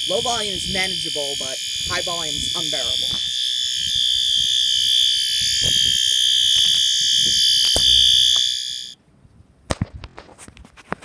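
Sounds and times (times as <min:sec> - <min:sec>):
continuous fire alarm horn tone: 0:00.0 - 0:09.0.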